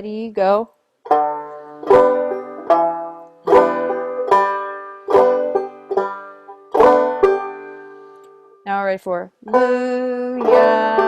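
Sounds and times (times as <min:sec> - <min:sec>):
banjo picking and strumming: 0:01.0 - 0:11.0.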